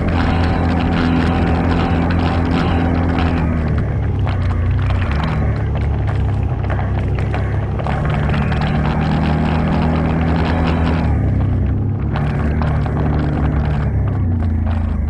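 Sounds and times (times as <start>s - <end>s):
atv engine running: 0.0s - 15.0s
rattling and clatter over rough ground: 0.0s - 15.0s.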